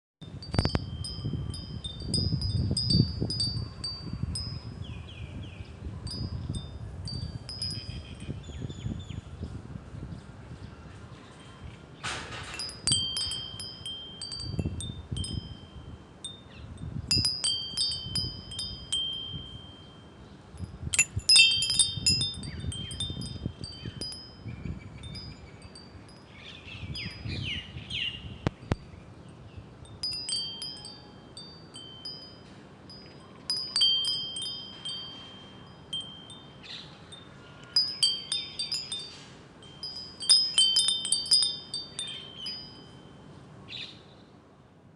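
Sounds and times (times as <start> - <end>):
wind chimes tinkling: 0.2 - 9.0, 12.3 - 43.6.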